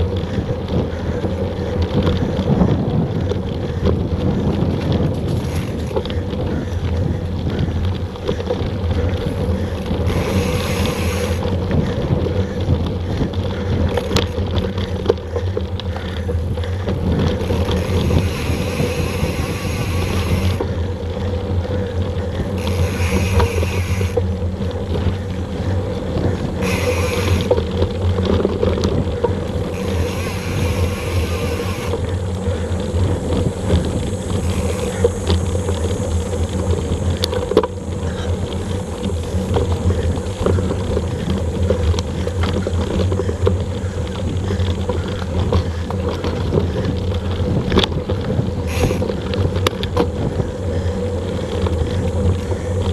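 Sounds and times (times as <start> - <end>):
bike tyres rattling over dirt: 0.0 - 52.9
wind noise on microphone: 0.0 - 52.9.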